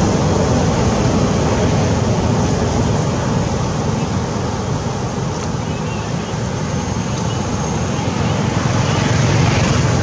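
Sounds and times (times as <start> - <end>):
rushing noise with fluttering rumble: 0.0 - 10.0.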